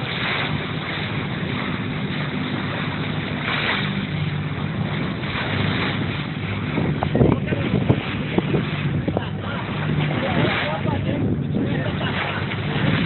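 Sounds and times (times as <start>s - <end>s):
boat engine running: 0.0s - 13.0s
rushing water: 0.0s - 13.0s
wind: 0.0s - 13.0s.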